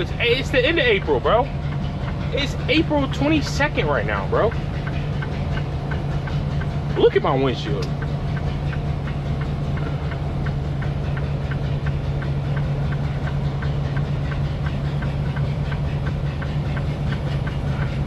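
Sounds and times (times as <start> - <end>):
tire chain knocking: 0.0 - 18.0
truck engine running: 0.0 - 18.0.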